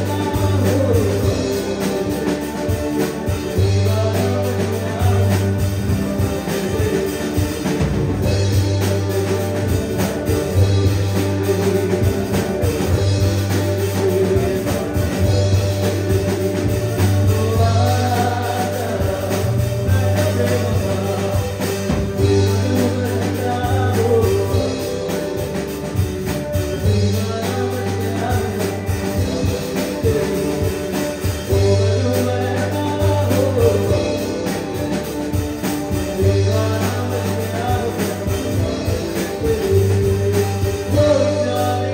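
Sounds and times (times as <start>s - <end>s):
drums: 0.0s - 41.9s
electric guitar: 0.0s - 41.9s
keyboard: 0.0s - 41.9s
man singing: 0.0s - 41.9s.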